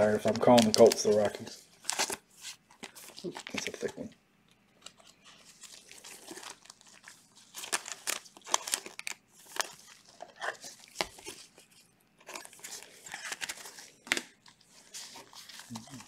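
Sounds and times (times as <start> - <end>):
plastic card sleeve crinkling: 0.0 - 4.1, 4.7 - 16.0.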